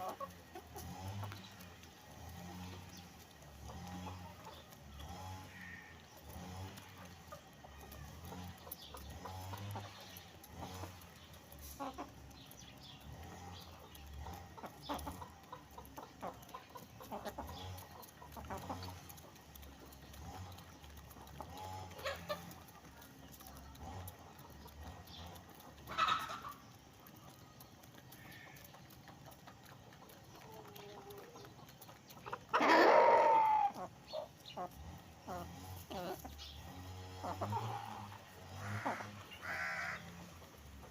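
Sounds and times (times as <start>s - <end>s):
chickens clucking: 0.0s - 40.9s
chickens pecking at feed: 0.0s - 40.9s.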